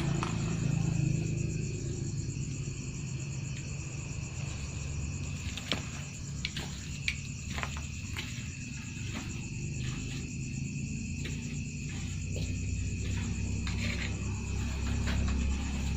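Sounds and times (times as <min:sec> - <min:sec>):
crickets chirring: 0:00.0 - 0:15.9.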